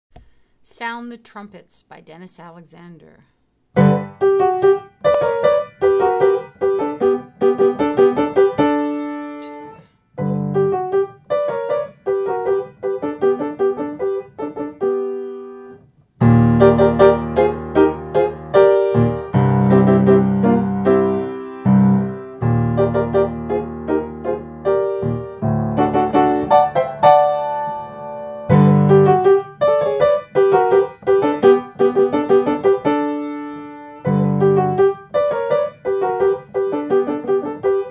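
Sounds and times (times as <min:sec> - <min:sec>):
piano piece: 0:03.7 - 0:37.9.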